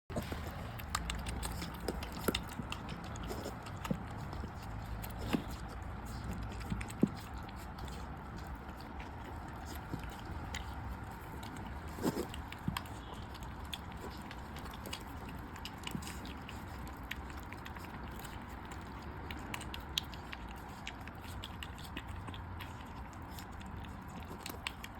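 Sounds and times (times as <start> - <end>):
animals chewing and biting: 0.1 - 24.9.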